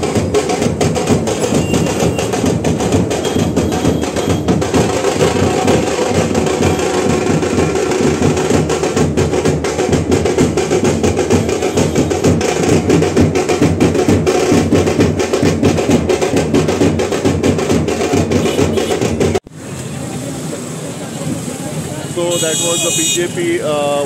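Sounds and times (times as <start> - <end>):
drums beaten fast: 0.0 - 19.5, 21.2 - 24.0.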